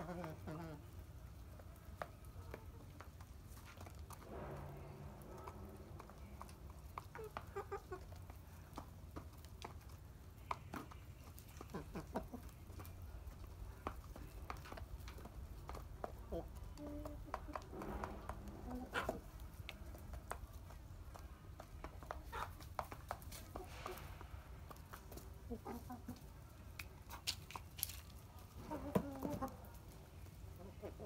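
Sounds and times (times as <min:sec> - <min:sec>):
chickens clucking: 0:00.0 - 0:04.3, 0:05.2 - 0:31.0.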